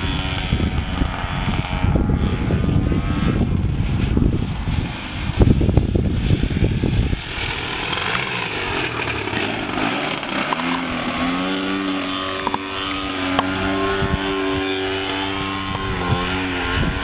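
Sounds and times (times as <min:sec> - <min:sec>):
model plane engine running: 0:00.0 - 0:17.0.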